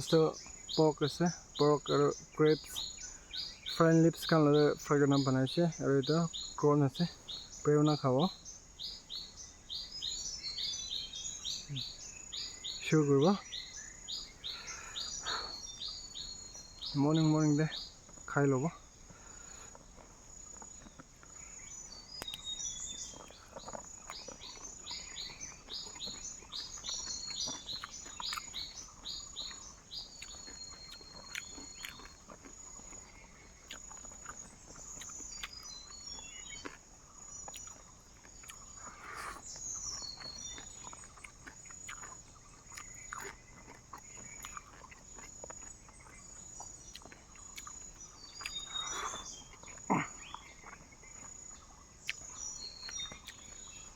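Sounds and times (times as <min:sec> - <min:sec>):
birds calling: 0:00.0 - 0:53.9
insect trilling: 0:00.0 - 0:53.9.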